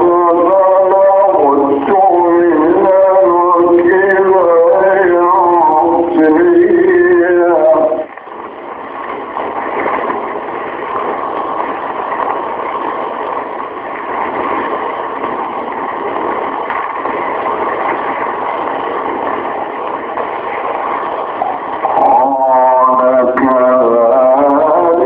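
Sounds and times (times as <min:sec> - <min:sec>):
old recording hiss and rumble: 0:00.0 - 0:25.0.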